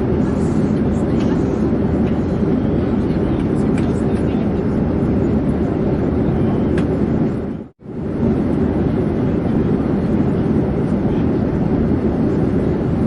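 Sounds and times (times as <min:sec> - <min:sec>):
airplane in flight rumbling: 0:00.0 - 0:13.0.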